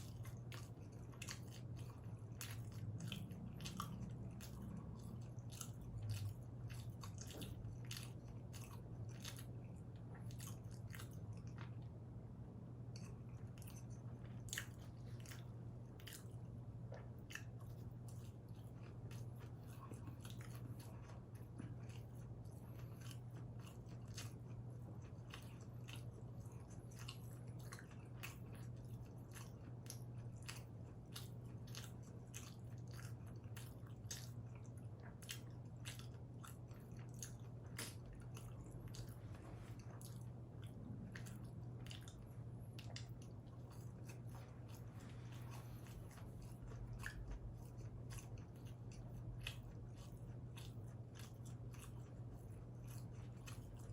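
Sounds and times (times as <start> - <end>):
low hum: 0.0 - 29.8, 30.5 - 53.9
chewing and crunching food: 0.0 - 53.9.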